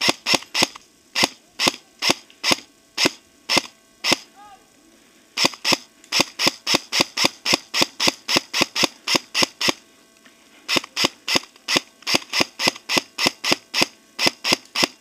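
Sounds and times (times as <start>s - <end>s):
airsoft gun firing single shots: 0.0s - 4.3s, 5.4s - 9.8s, 10.7s - 15.0s.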